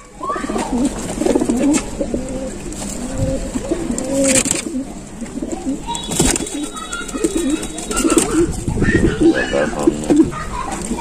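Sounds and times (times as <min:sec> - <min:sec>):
pigeons cooing: 0:00.1 - 0:11.0.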